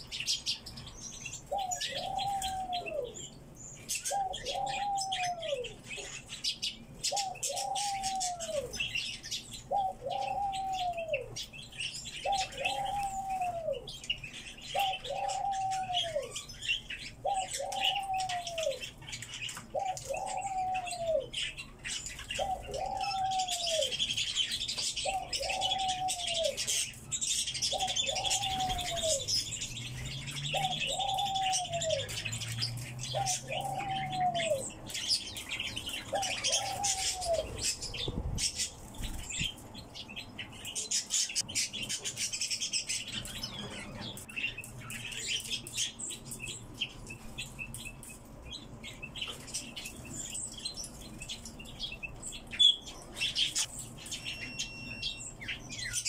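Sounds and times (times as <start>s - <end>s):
small birds twittering: 0.0s - 56.0s.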